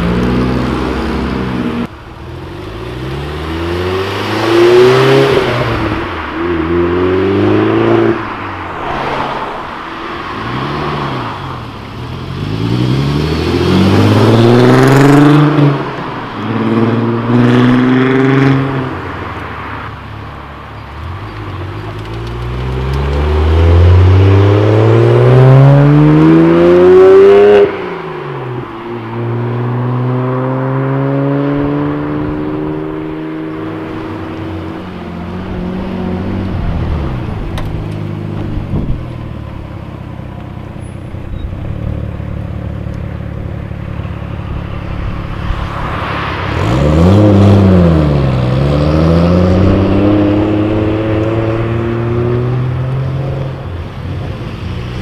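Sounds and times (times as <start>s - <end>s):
car engines revving and accelerating: 0.0s - 55.0s.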